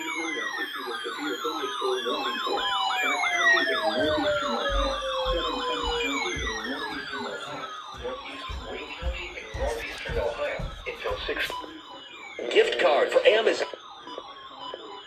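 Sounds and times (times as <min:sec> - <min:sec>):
siren on fast yelp: 0:00.0 - 0:15.0
sirens winding down in pitch: 0:00.0 - 0:15.0.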